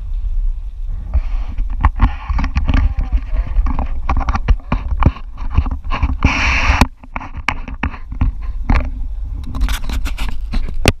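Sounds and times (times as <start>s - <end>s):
wind buffeting microphone: 0.0s - 11.0s
hand rubbing against camera: 1.0s - 11.0s.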